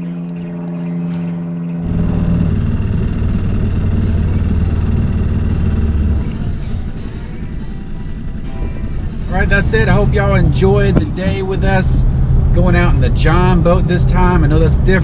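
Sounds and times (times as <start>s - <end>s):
outboard motor humming: 0.0s - 15.0s
low rumble: 1.8s - 15.0s.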